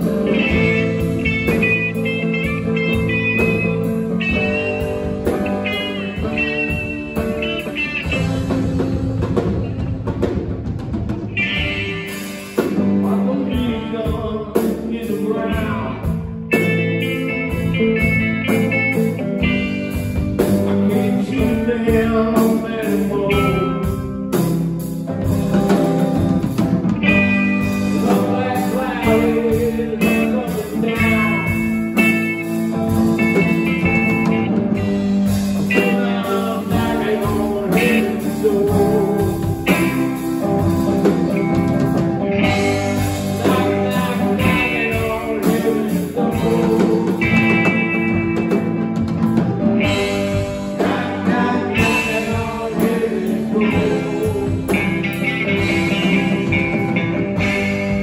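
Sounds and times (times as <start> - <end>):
drum kit: 0.0 - 58.0
electric guitars through amplifiers: 0.0 - 58.0
wavering guitar lead: 0.0 - 58.0.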